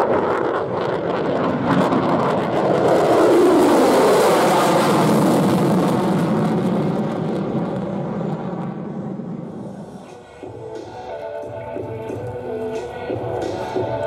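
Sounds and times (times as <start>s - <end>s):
jet afterburner roar: 0.0s - 14.0s.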